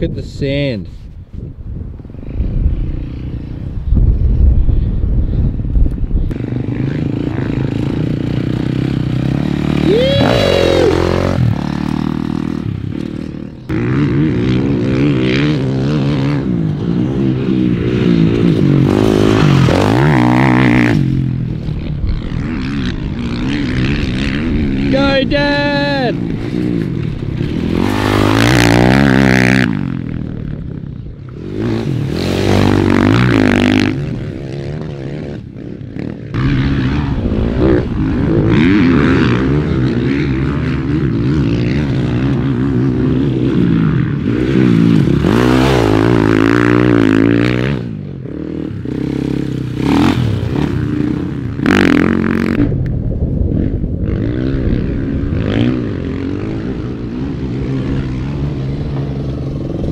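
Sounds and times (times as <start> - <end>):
dirt bike engines revving: 2.0 - 4.9, 6.2 - 59.9.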